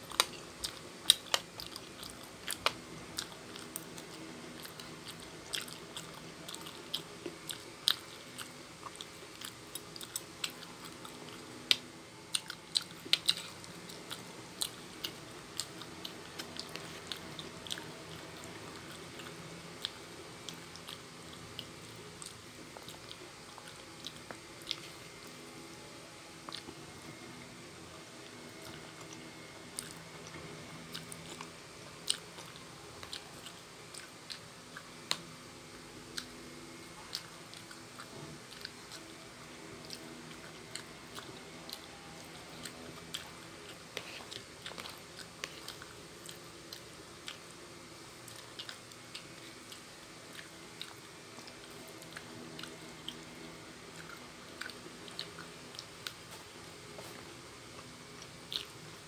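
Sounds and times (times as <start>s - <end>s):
chewing noodles: 0.0s - 25.4s, 27.9s - 35.2s, 36.1s - 47.5s, 48.1s - 59.0s.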